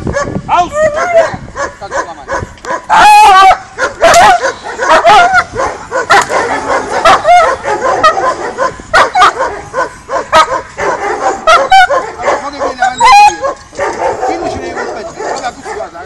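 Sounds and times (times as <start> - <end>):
dog barking hard and fast: 0.0 - 16.0.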